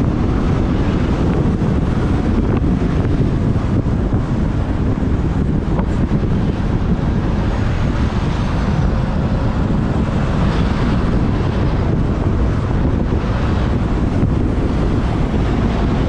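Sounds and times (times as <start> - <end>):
surrounding traffic: 0.0 - 16.0
wind buffeting microphone: 0.0 - 16.0.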